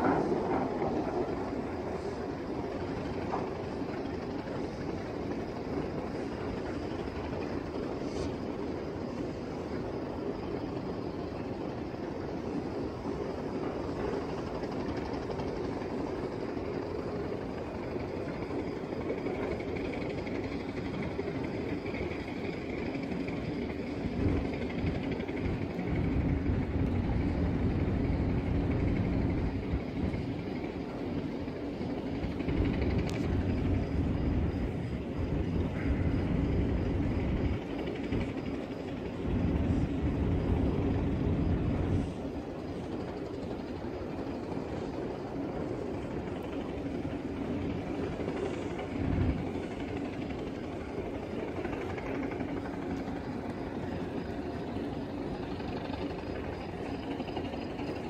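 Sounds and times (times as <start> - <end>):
ship engine low rumble: 0.0 - 58.0
wind buffeting microphone: 0.0 - 58.0.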